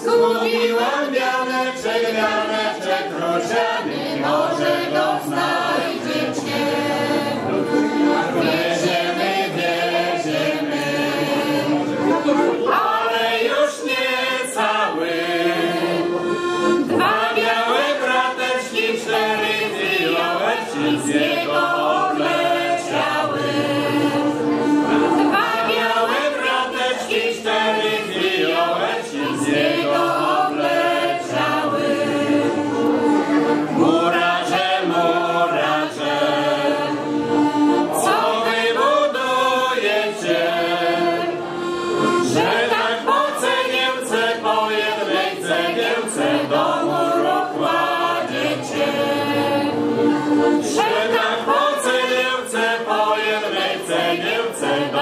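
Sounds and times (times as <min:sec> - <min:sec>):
choir singing a folk song: 0:00.0 - 0:55.0.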